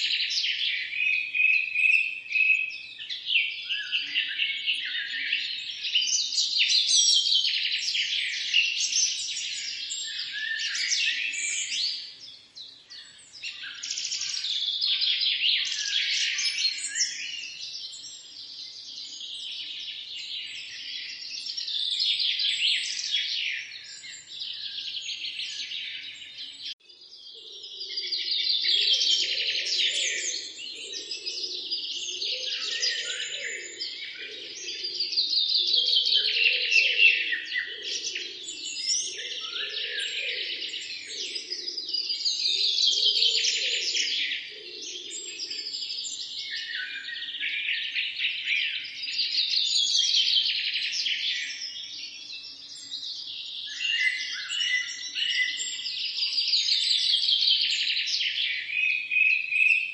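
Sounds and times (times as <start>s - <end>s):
chorus of songbirds chirping: 0.0s - 59.9s.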